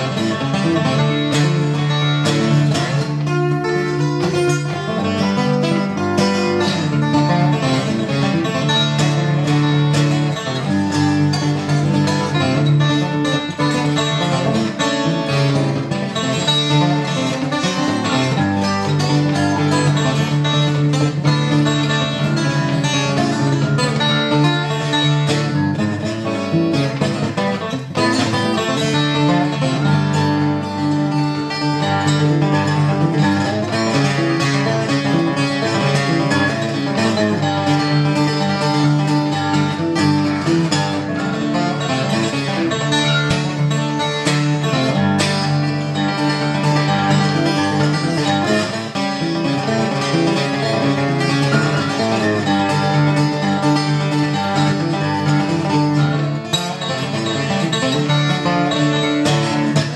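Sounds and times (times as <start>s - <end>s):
fingerstyle acoustic guitar: 0.0s - 59.9s.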